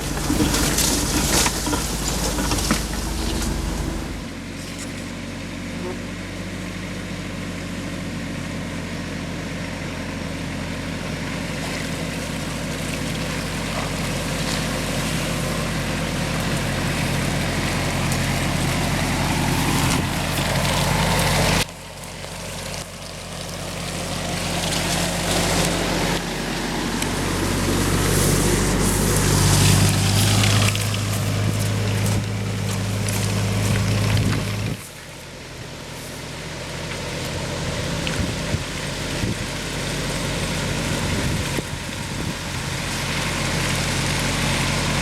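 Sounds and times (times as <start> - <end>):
suv engine running: 0.0 - 45.0.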